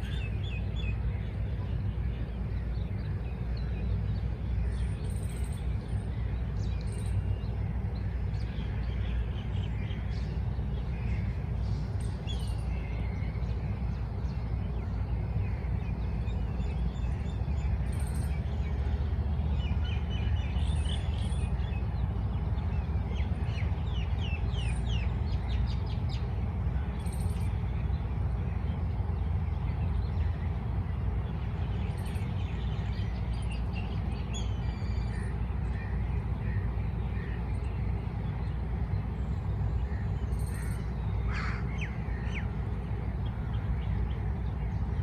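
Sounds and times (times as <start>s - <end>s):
birds chirping and calling: 2.3s - 45.0s.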